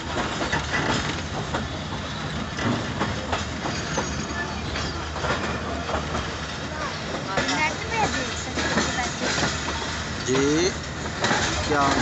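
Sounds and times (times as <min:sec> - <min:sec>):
train wheels rumbling: 0:00.0 - 0:12.0
wheels clacking over rail joints: 0:00.0 - 0:12.0.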